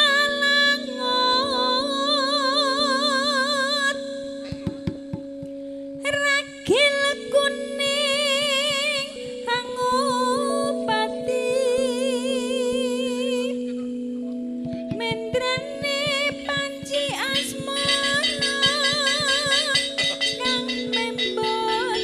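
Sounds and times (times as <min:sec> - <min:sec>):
woman singing with vibrato: 0:00.0 - 0:04.9, 0:06.0 - 0:13.9, 0:14.9 - 0:22.0
sustained keyboard chords: 0:00.0 - 0:22.0.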